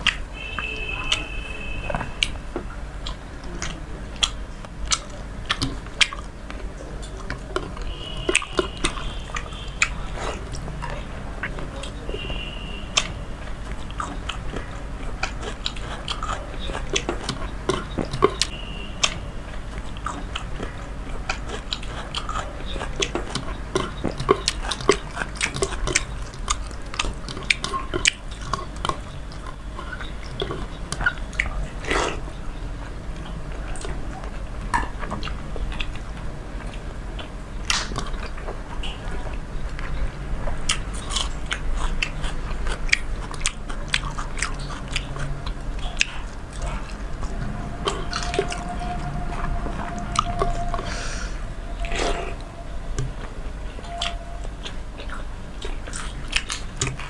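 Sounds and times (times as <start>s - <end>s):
wet chewing and smacking: 0.0s - 57.0s.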